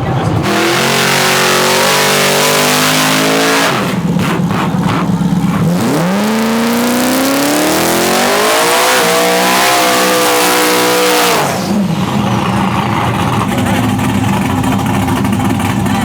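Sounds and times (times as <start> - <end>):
truck engine at full throttle: 0.0 - 16.0.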